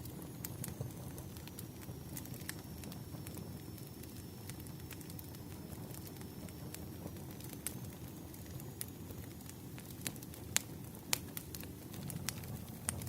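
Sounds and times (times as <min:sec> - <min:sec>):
low rumble of flames: 0:00.0 - 0:13.0
wood fire crackling: 0:00.0 - 0:13.0.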